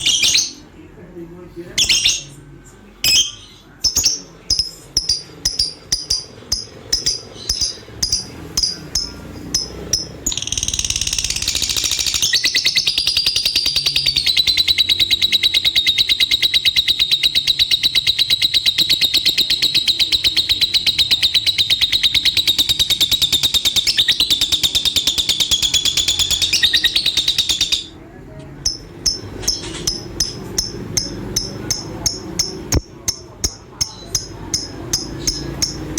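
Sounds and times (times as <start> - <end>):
lovebird chirping: 0.0 - 0.6, 1.8 - 2.3, 3.0 - 28.0, 28.6 - 35.9
rapid high bird chatter: 3.1 - 28.0, 28.6 - 35.9.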